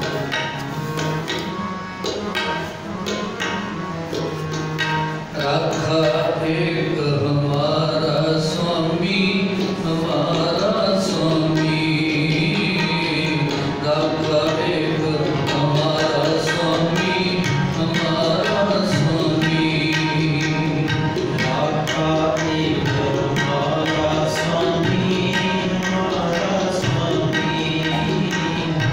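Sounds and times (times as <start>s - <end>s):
harmoniums: 0.0s - 28.9s
tabla: 0.0s - 28.9s.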